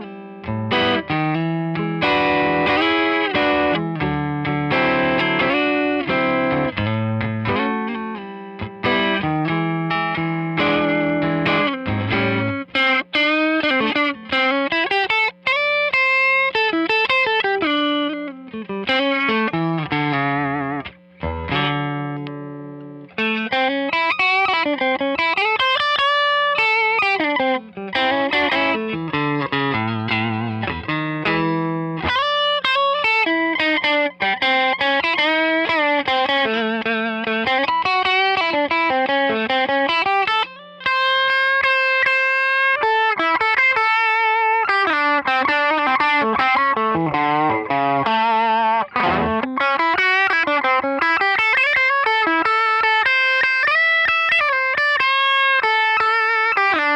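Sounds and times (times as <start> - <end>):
overdriven electric guitar lead: 0.0 - 56.9.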